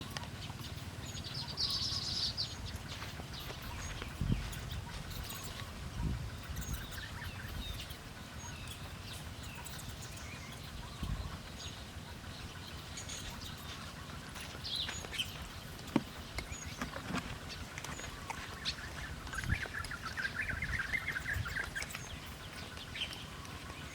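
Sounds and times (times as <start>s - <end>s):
birds chirping and calling: 0.0s - 23.9s.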